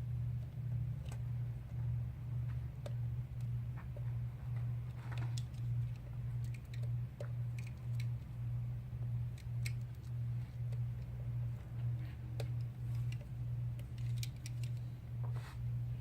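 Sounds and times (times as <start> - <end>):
pulsing low hum: 0.0 - 16.0.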